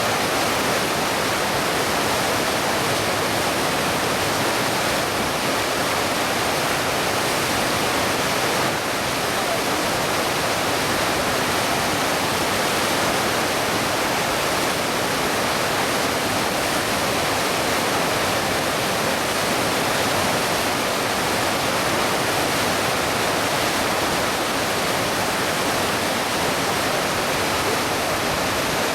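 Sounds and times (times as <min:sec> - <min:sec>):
whitewater rapids rushing: 0:00.0 - 0:28.9.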